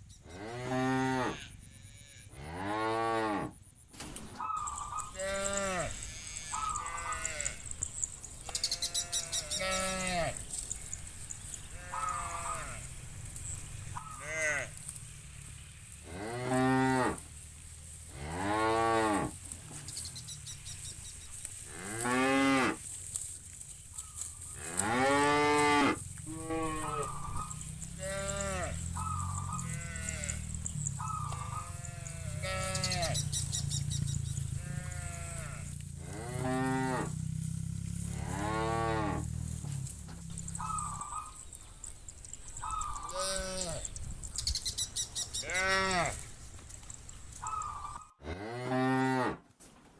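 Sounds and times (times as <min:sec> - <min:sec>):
cattle mooing: 0:00.3 - 0:03.5, 0:04.6 - 0:15.0, 0:16.0 - 0:17.3, 0:21.6 - 0:22.8, 0:24.5 - 0:44.3, 0:45.1 - 0:49.4.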